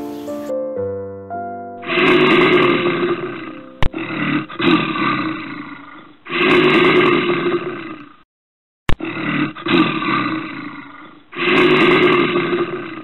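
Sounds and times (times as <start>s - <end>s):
bear roaring: 1.8s - 8.2s, 8.9s - 13.0s.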